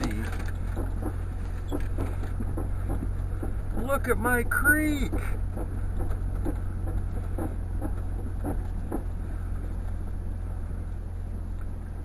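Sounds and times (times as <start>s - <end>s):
vehicle creaking: 0.0s - 10.8s
car engine rumbling: 0.0s - 12.0s.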